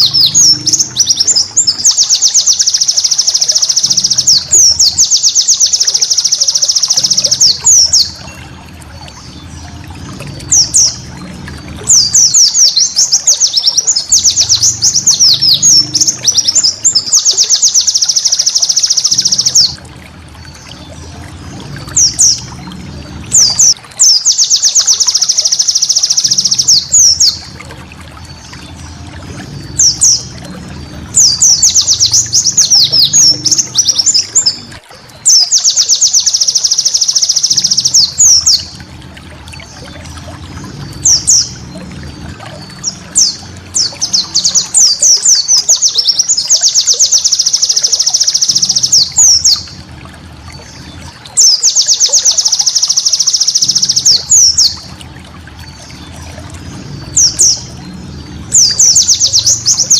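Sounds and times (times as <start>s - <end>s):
bird singing chattering trills: 0.0s - 9.8s, 10.4s - 19.8s, 20.4s - 27.6s, 28.3s - 38.8s, 40.7s - 49.7s, 50.6s - 54.8s, 56.7s - 59.9s.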